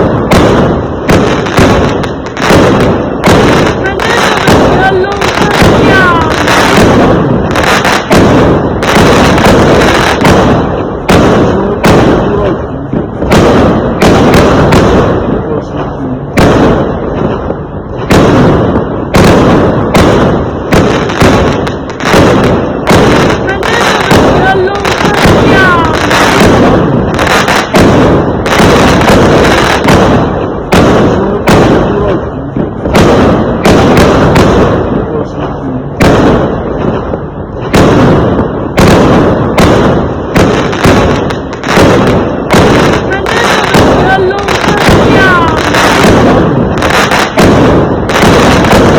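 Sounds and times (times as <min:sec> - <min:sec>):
fireworks exploding: 0:00.0 - 0:48.9.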